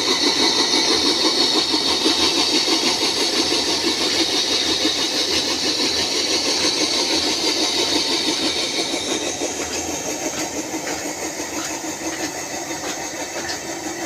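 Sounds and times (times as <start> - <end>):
flour mill machine drone: 0.0 - 14.0.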